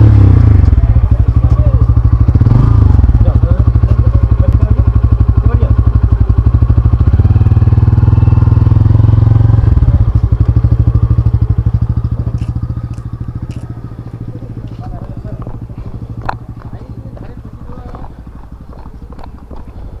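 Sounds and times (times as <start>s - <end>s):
engine running with fast throb: 0.0s - 20.0s.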